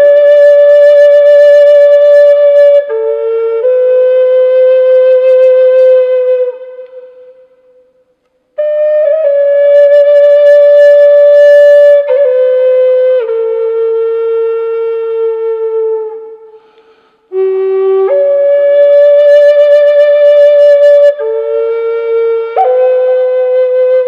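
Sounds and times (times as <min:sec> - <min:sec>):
flute playing slow melody: 0:00.0 - 0:24.0.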